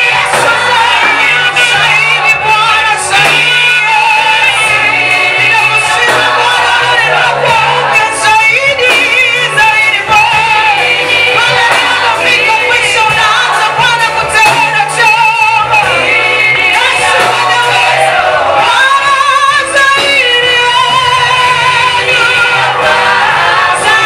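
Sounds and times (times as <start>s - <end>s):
band accompaniment: 0.0s - 24.0s
gospel song sung with vibrato: 0.0s - 24.0s.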